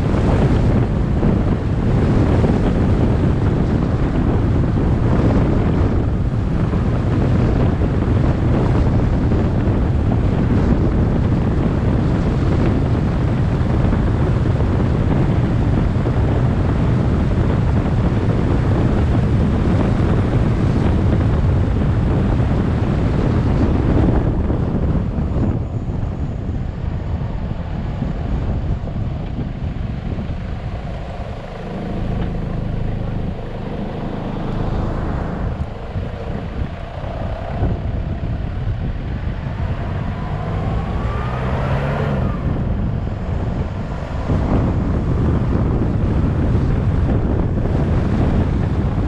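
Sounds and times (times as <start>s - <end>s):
wind and road noise from car: 0.0s - 49.0s.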